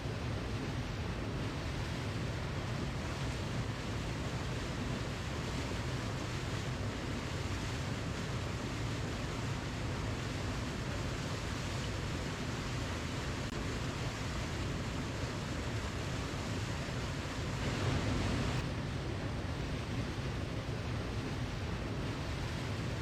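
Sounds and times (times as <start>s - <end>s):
waterfall roaring: 0.2s - 23.0s.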